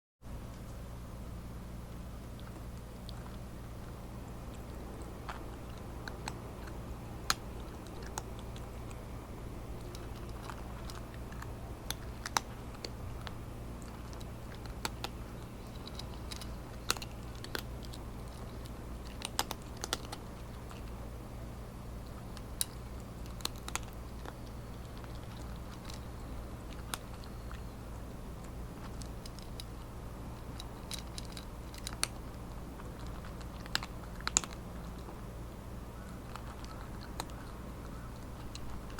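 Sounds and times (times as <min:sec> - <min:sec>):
steady low hum: 0:00.2 - 0:38.9
cat crunching dry kibble: 0:01.4 - 0:38.9.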